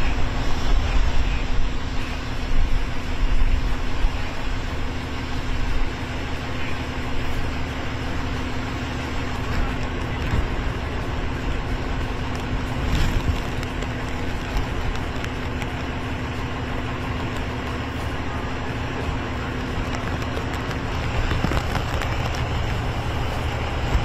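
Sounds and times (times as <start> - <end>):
low hum: 0.0 - 24.0
outdoor rumble and hiss: 0.0 - 24.0.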